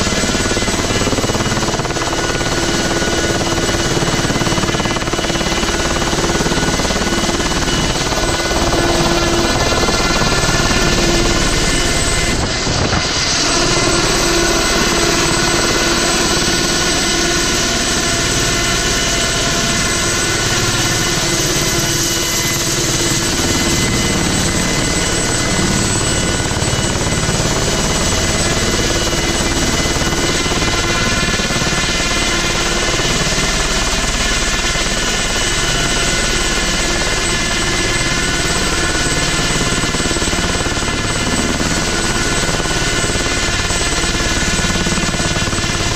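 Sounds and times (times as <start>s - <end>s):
helicopter engine drone: 0.0s - 45.9s.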